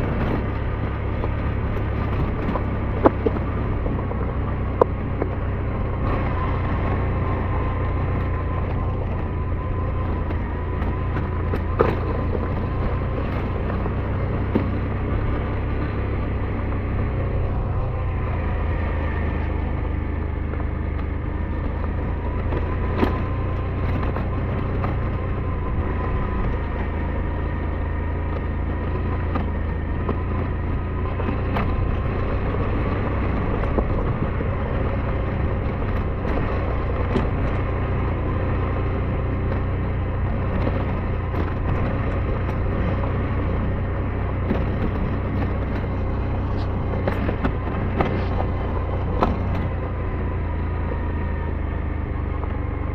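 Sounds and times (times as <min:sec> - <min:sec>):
scooter engine running: 0:00.0 - 0:52.9.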